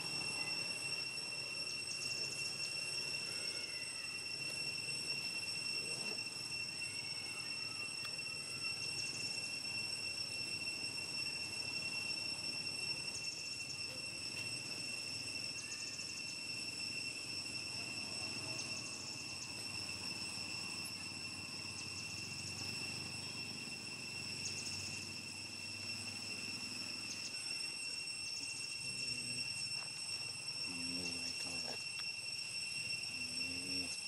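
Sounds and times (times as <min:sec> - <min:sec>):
insect pulsed chirp: 0:00.0 - 0:34.0
insects high-pitched drone: 0:00.0 - 0:34.0.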